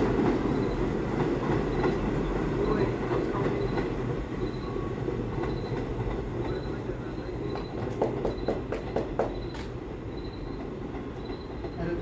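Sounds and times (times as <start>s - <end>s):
subway train rumbling on rails: 0.0s - 12.0s.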